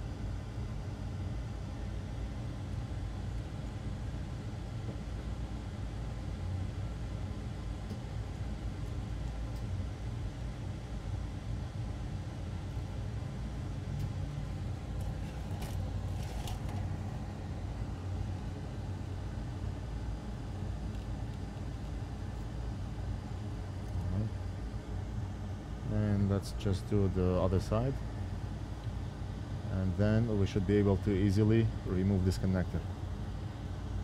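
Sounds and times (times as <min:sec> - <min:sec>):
low fan rumble: 0:00.0 - 0:34.0.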